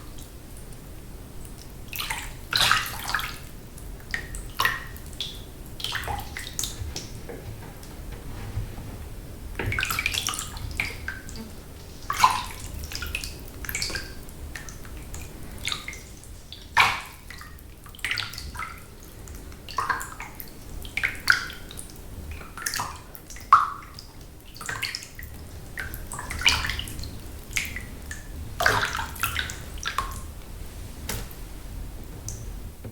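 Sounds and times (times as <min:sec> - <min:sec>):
water sloshing in a bathtub: 0:00.0 - 0:32.9.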